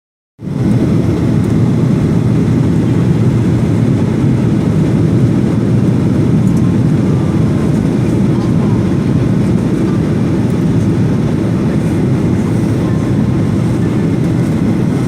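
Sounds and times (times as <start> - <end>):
jet airliner cabin rumble: 0.4 - 15.0.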